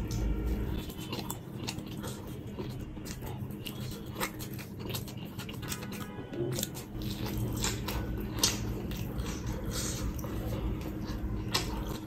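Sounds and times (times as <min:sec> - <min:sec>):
man chewing pizza: 0:00.0 - 0:12.0.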